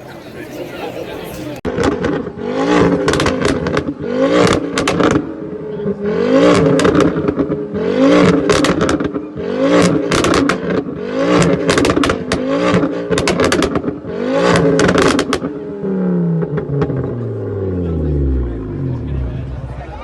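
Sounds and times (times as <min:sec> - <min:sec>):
car engine revving: 0:01.4 - 0:20.0
exhaust cracks: 0:01.6 - 0:20.0.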